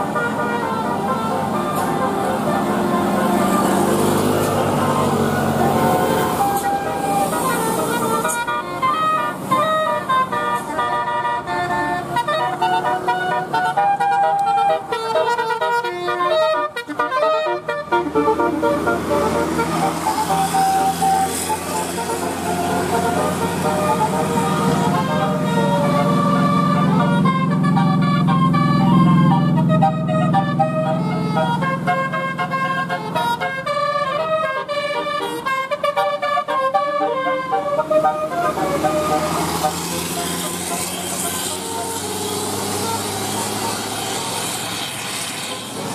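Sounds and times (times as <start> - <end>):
multi-tone air horn melody: 0.0 - 45.9.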